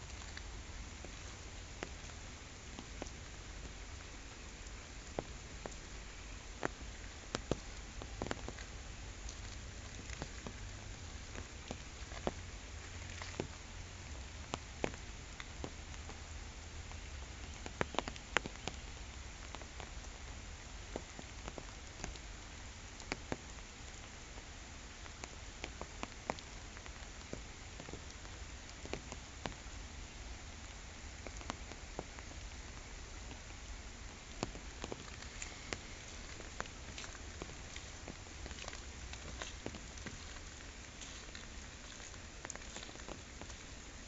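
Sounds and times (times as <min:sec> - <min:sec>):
rain falling on a pond: 0:00.0 - 0:44.0.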